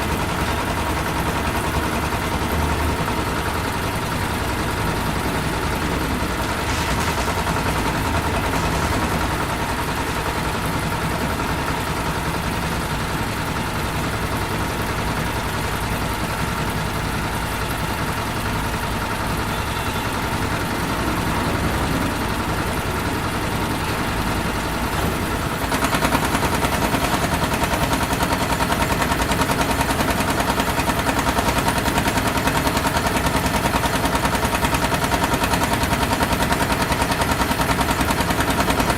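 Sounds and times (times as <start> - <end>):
industrial engines running: 0.0 - 38.9.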